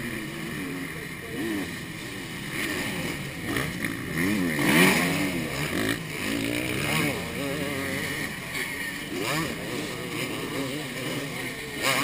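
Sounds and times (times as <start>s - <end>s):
dirt bike engines revving: 0.0s - 12.0s
dirt bike passing by: 0.0s - 12.0s.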